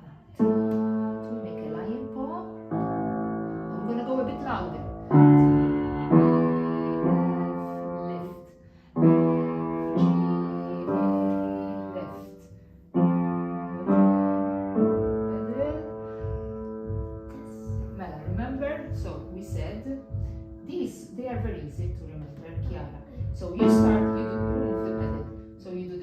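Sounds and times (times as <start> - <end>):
piano notes ringing: 0.0 - 26.0.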